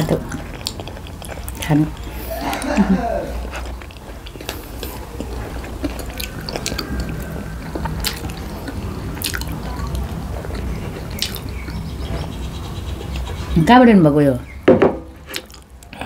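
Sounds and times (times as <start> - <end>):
wet chewing mouth sounds: 0.0 - 2.7, 3.4 - 13.6, 15.2 - 16.0.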